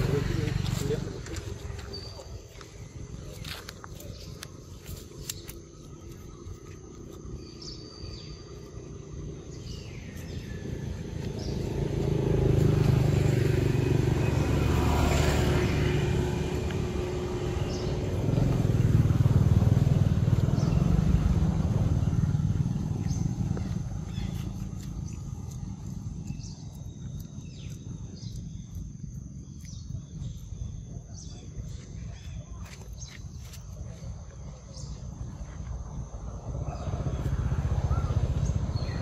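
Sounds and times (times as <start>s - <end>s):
vehicle engine rumble passing: 0.0s - 39.0s.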